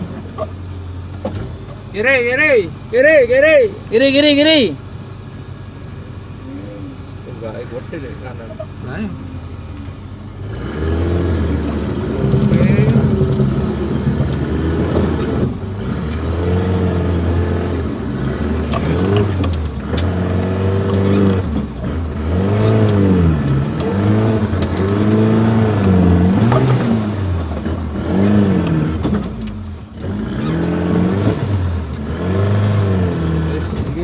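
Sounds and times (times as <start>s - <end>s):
engine revving: 6.3s - 34.0s.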